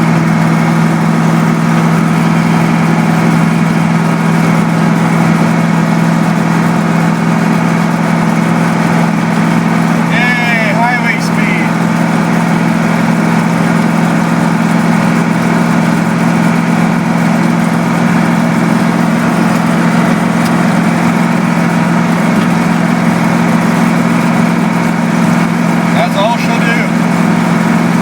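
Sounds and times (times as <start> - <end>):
diesel truck engine drone: 0.0 - 28.0.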